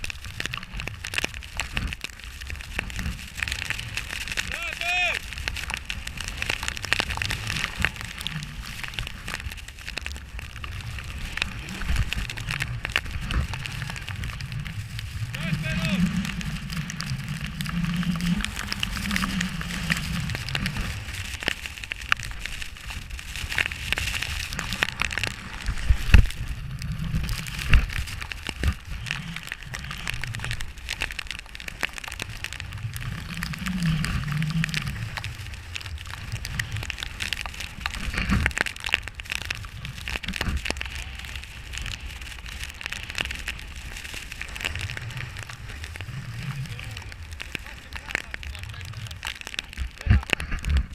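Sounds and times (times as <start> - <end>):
snowboard scraping over snow: 0.1 - 50.9.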